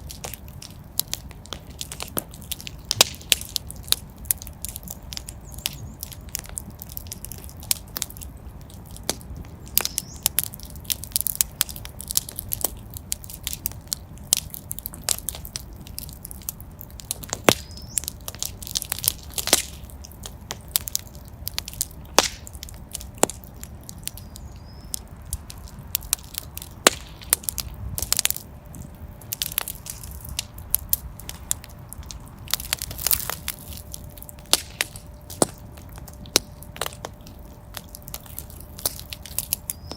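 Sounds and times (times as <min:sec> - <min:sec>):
low background noise: 0:00.0 - 0:39.9
wood fire crackling: 0:00.0 - 0:39.9.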